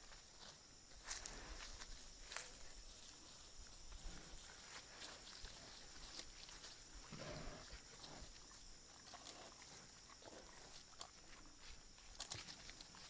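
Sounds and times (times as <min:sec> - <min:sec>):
animals scratching and rustling: 0:01.2 - 0:13.0.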